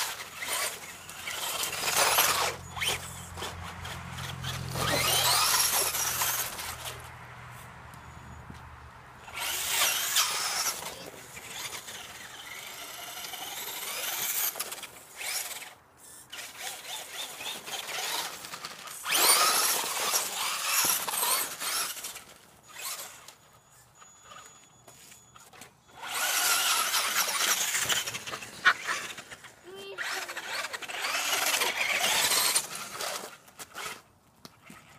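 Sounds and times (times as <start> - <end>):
toy car motor whining: 0.0 - 7.1, 9.2 - 34.9.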